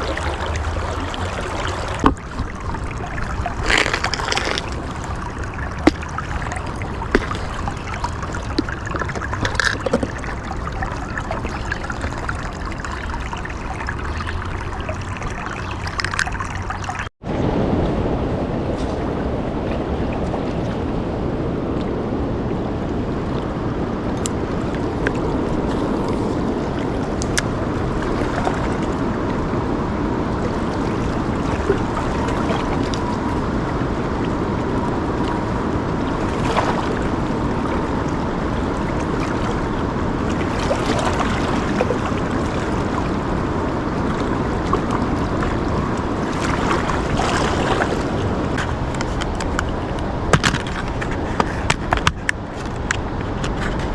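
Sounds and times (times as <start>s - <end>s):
river water washing: 0.0s - 53.9s
wind buffeting the microphone: 0.0s - 53.9s.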